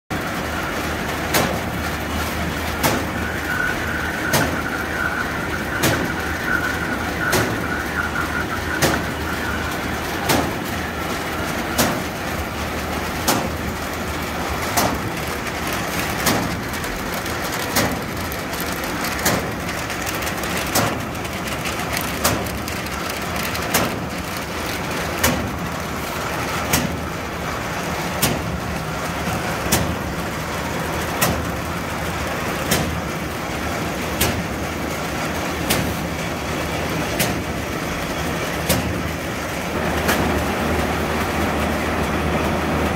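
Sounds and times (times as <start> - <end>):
sharp machine clack: 0.1 - 41.9
machine humming: 0.1 - 42.9.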